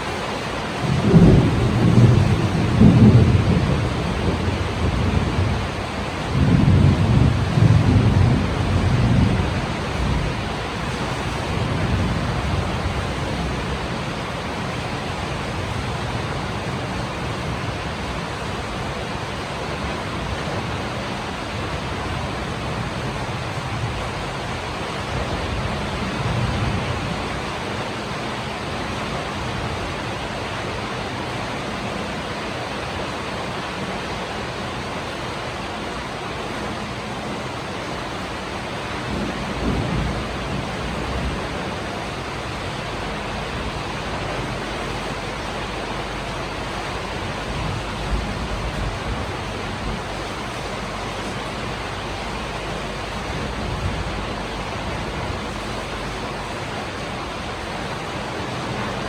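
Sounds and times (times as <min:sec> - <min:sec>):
thunder rumbling: 0:00.0 - 0:28.0, 0:38.9 - 0:59.0
heavy rain falling: 0:00.0 - 0:59.0.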